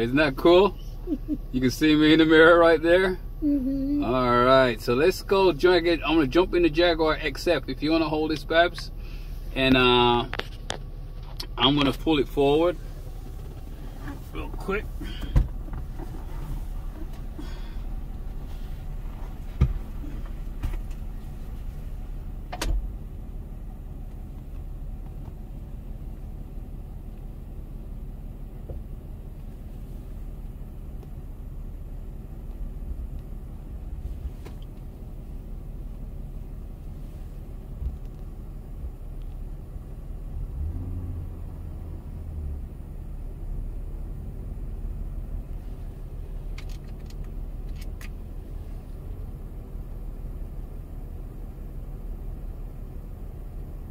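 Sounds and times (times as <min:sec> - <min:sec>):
car idling low rumble: 0:00.0 - 0:53.9.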